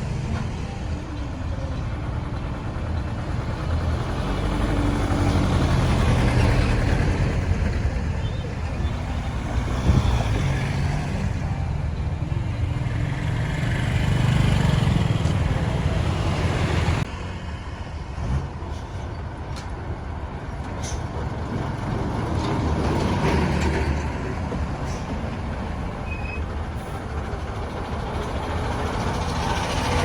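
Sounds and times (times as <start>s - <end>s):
heavy vehicle engine running: 0.0s - 30.0s
road traffic noise: 0.0s - 30.0s.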